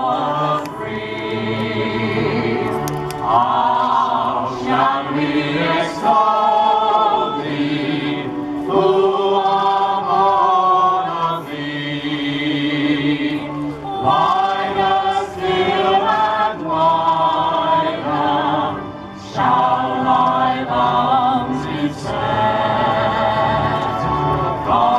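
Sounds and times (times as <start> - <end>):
choir of voices singing: 0.0 - 24.9.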